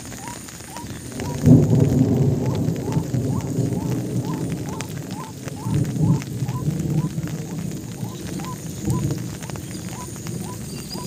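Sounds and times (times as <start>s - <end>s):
short rising calls: 0.0s - 11.0s
thunder rolling: 0.0s - 11.0s.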